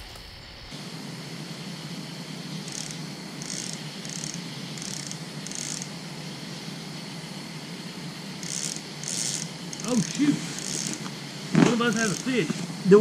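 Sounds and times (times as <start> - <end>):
background hiss: 0.0 - 13.0
insects chirping: 0.0 - 13.0.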